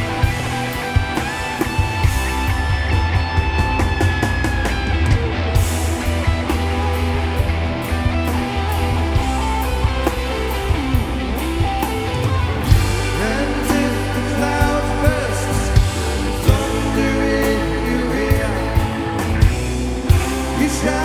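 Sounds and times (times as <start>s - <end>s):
rock music: 0.0s - 21.0s.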